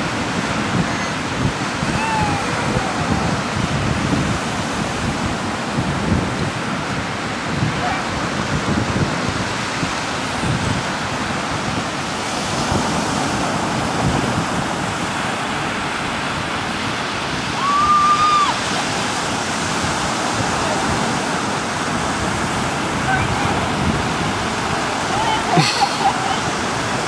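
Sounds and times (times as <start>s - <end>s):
surf: 0.0s - 27.0s
wind noise: 0.0s - 27.0s.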